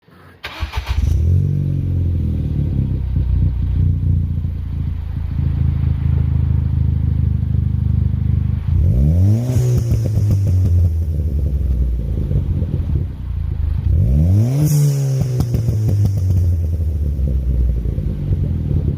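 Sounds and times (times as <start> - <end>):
car engine idling: 0.2 - 18.9.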